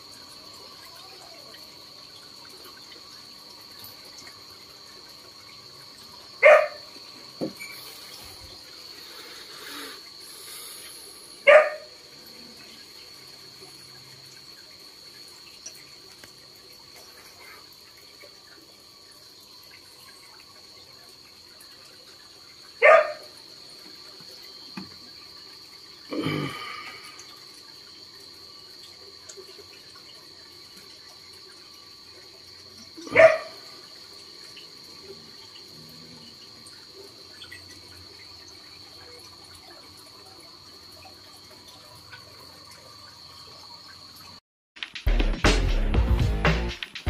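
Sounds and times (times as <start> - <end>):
high-pitched insect drone: 0.0 - 44.4.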